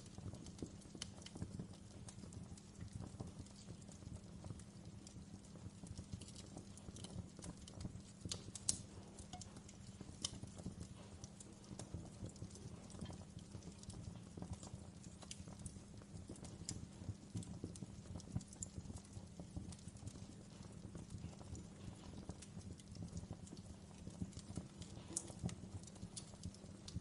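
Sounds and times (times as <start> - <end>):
low rumble of burning: 0.0 - 27.0
wood fire crackling: 0.0 - 27.0.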